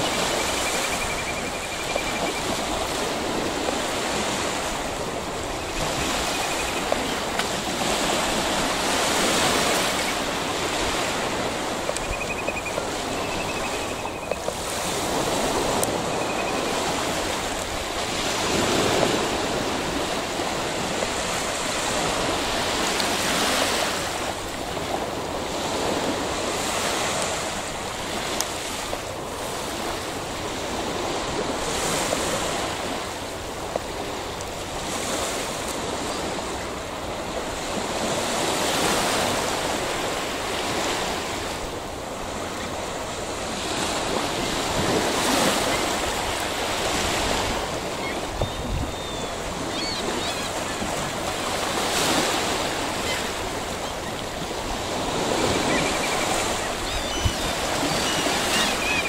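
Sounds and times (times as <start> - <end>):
waves washing: 0.0 - 59.0.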